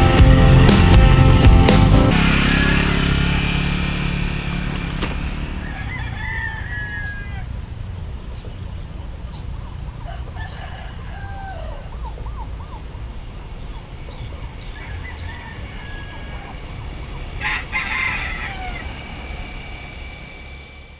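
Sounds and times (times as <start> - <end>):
rooster crowing: 2.1 - 7.9, 9.6 - 20.8
steady low rumble: 3.5 - 20.9.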